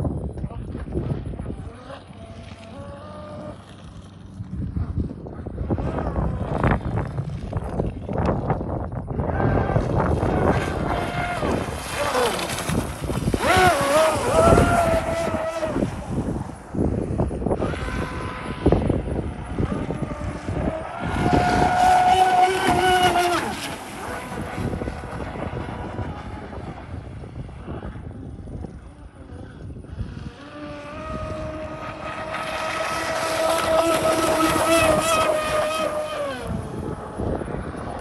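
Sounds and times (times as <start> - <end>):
electric boat motors whining: 0.8 - 8.2, 9.2 - 38.0.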